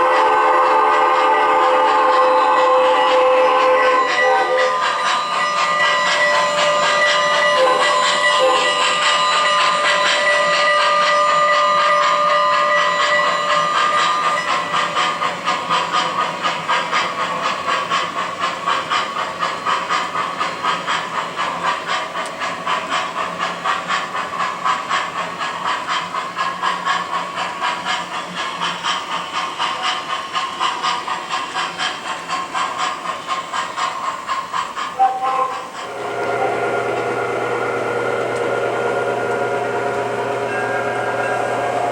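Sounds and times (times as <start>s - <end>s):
model train pulsing hiss: 0.0s - 41.9s.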